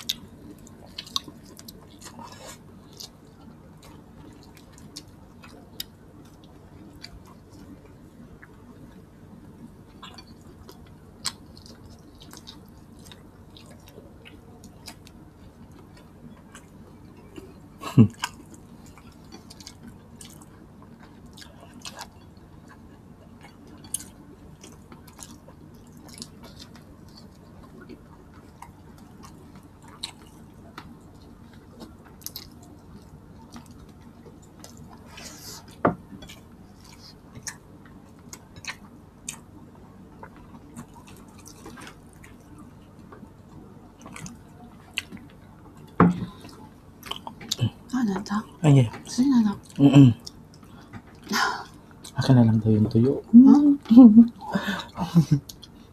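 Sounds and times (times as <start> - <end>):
person chewing food: 0.0 - 47.9, 54.3 - 55.9.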